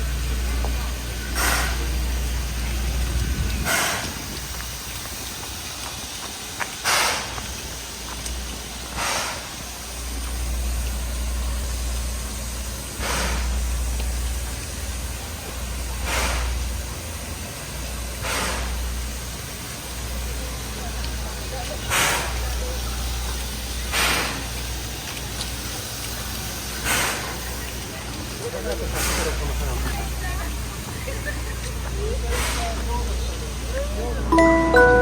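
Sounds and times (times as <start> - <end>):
steam locomotive hissing: 0.0 - 35.0.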